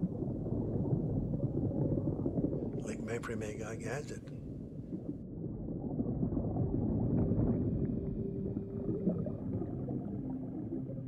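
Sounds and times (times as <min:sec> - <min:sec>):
faint held low tones: 0:00.0 - 0:11.0
low churning underwater rumble: 0:00.0 - 0:11.0.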